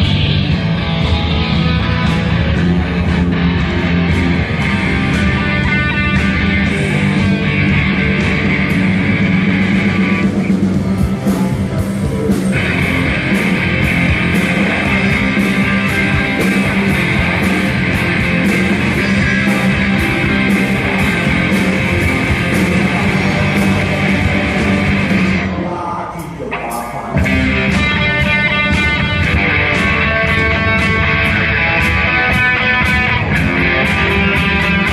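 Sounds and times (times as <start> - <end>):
drums with cymbal hits: 0.0 - 25.5, 26.2 - 34.9
loud electric guitar: 0.0 - 34.9.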